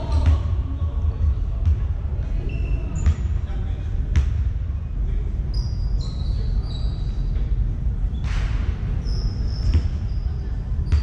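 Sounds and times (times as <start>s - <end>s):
sneakers squeaking: 0.0s - 3.5s, 5.5s - 11.0s
low rumble of hall: 0.0s - 11.0s.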